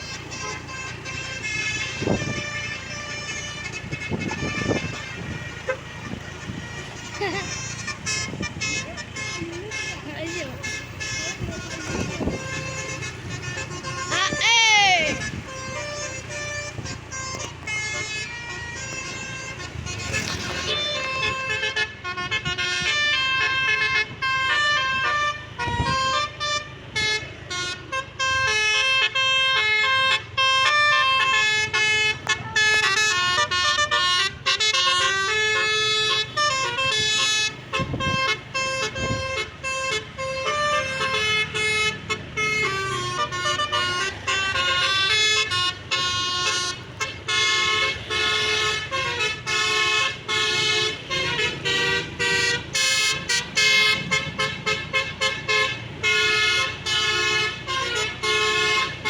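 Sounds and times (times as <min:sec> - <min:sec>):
musical bus horn melody: 0:00.0 - 0:59.0.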